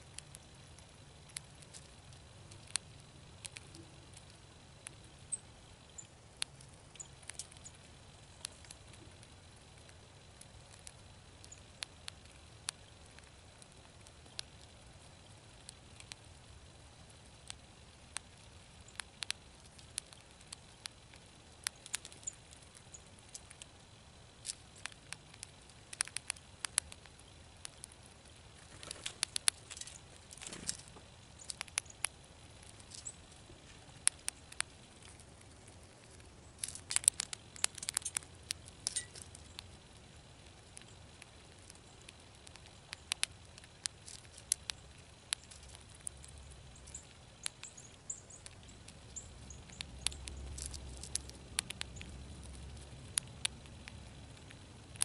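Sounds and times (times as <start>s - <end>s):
squirrel cracking seeds: 0.0s - 55.0s.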